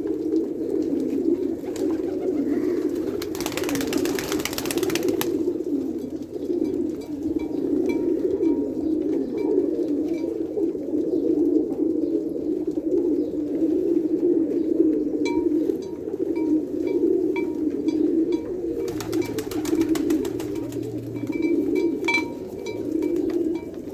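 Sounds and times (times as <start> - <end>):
pigeons cooing: 0.0 - 23.9.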